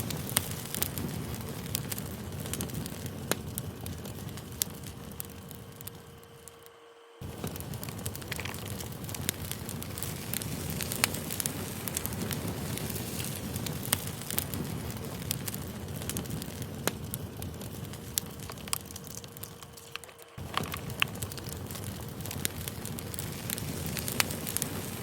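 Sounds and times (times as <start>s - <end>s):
campfire flames crackling and popping: 0.0s - 25.0s.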